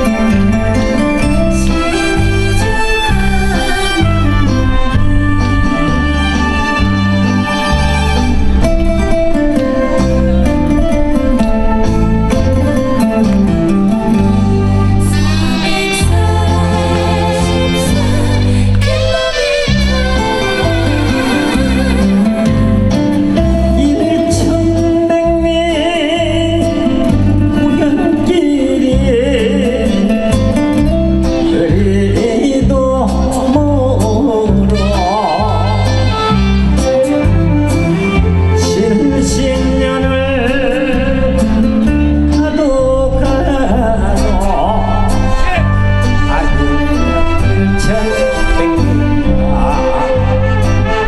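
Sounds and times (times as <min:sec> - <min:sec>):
person singing with vibrato: 0:00.0 - 0:08.6, 0:13.6 - 0:30.6, 0:31.2 - 0:37.4, 0:38.0 - 0:51.0.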